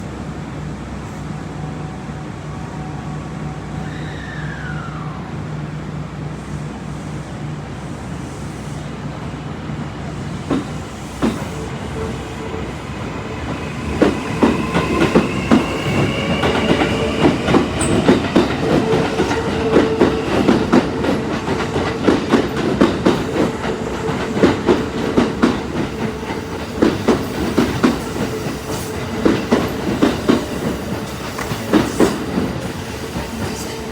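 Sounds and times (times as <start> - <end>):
train hum: 0.0 - 33.9.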